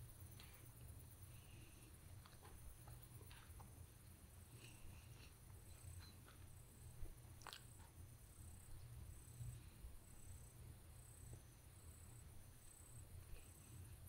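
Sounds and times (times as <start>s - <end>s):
high insect chirping: 0.0s - 14.0s
low steady rumble: 0.0s - 14.0s.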